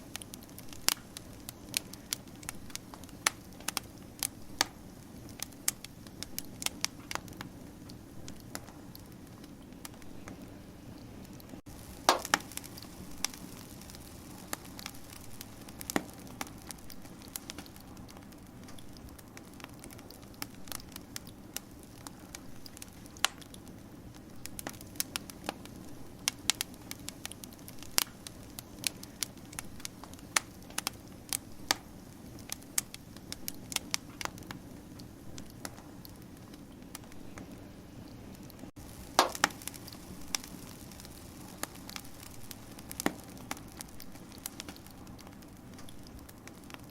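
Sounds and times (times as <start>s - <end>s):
low hiss of burning: 0.0s - 46.9s
wood fire crackling and popping: 0.0s - 46.9s.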